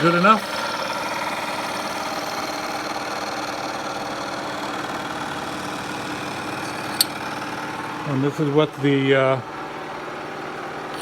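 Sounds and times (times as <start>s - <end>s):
milling machine motor hum: 0.0s - 8.8s, 9.4s - 11.0s.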